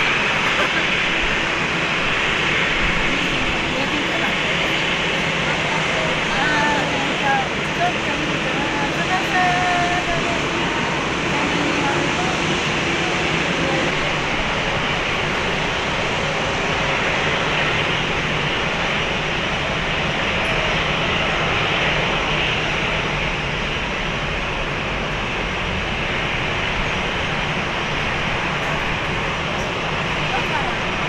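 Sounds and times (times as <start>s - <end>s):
jet engines at low power: 0.0s - 31.0s.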